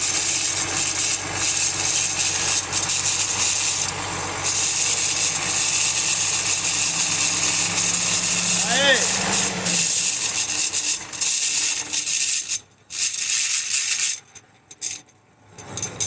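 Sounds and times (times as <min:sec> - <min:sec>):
gearbox grinding: 0:00.0 - 0:16.0.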